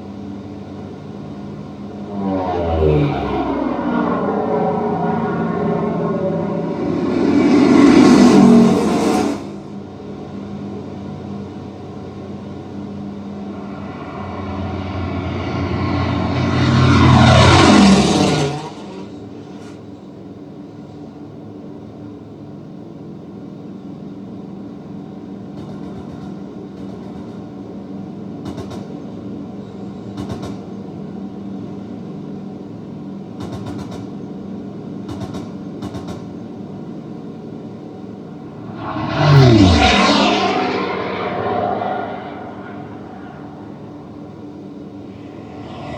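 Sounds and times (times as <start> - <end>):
planes passing overhead: 0.0 - 28.4, 34.3 - 45.9
propeller aircraft engine drone: 0.0 - 45.9.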